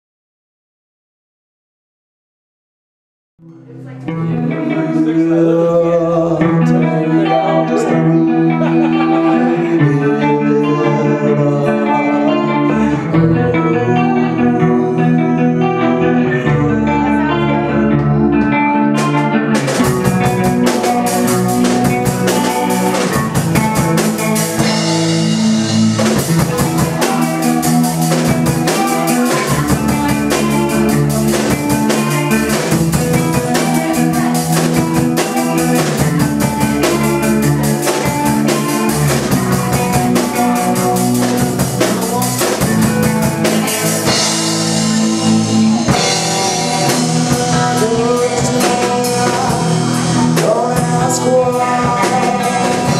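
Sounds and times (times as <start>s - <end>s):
rock guitar: 3.4s - 52.9s
rock drum kit: 6.2s - 52.9s.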